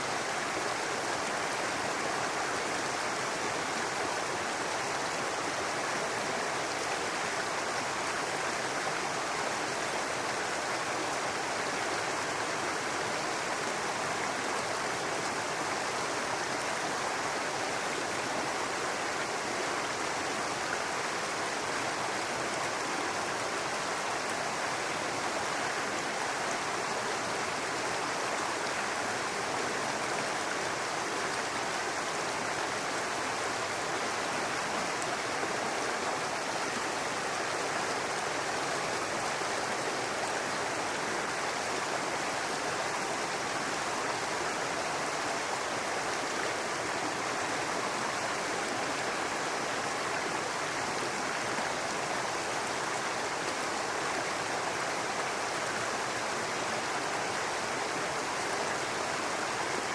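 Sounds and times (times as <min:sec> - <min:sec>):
brook babbling over rocks: 0:00.0 - 0:59.9.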